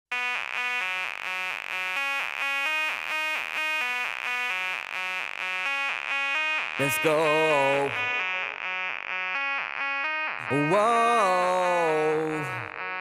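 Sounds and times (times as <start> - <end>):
electronic music with bright notes: 0.1 - 13.0.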